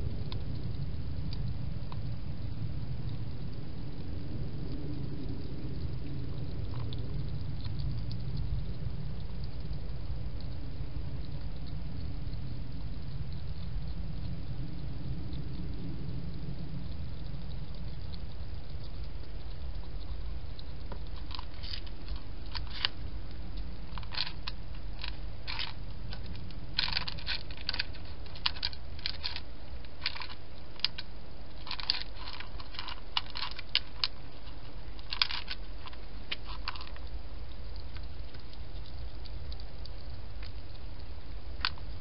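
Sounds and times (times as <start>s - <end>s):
steady low hum: 0.0s - 42.0s
hedgehog crunching food: 3.0s - 10.6s, 11.2s - 42.0s.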